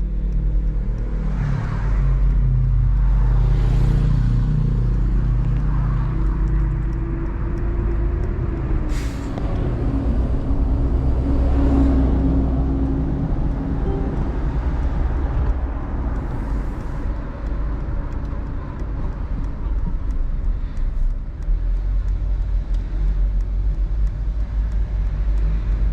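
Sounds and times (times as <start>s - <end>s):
diesel car engine humming: 0.0s - 25.9s
road noise: 0.0s - 25.9s.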